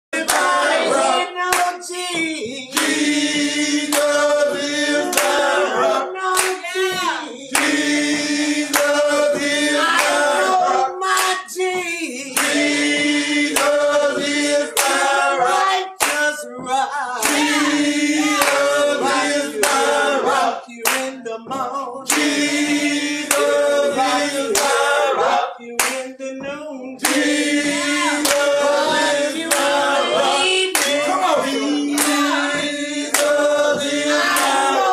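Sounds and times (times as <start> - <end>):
gospel choir singing with band: 0.1 - 34.9
sharp hand claps: 0.2 - 5.5, 6.2 - 16.4, 17.2 - 34.9.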